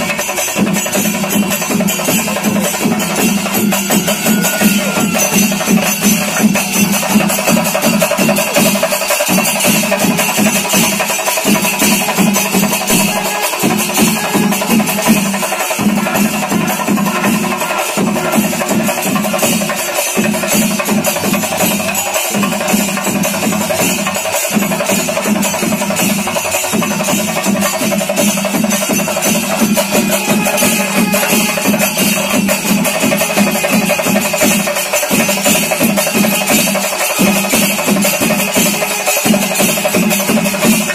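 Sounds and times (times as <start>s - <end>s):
drums in dense rhythm: 0.0s - 40.9s
jingling cymbals or bells: 0.0s - 40.9s.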